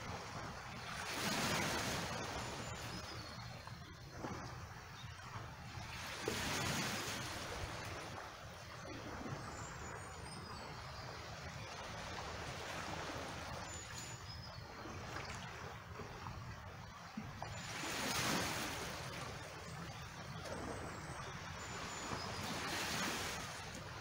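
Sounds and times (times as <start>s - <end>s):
small waves lapping over rocks: 0.0s - 24.0s.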